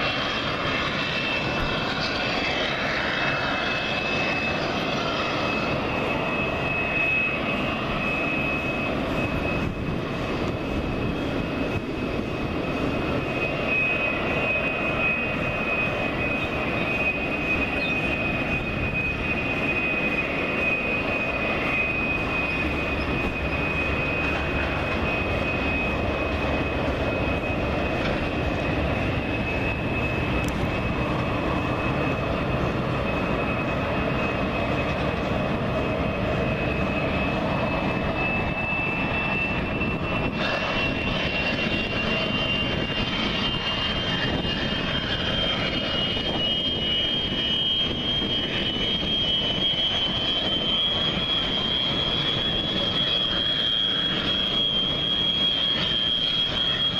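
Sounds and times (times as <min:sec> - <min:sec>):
jet turbine whine: 0:00.0 - 0:56.9.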